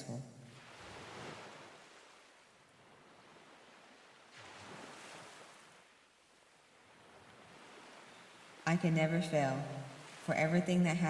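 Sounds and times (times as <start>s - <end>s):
ocean surf: 0.4s - 10.8s.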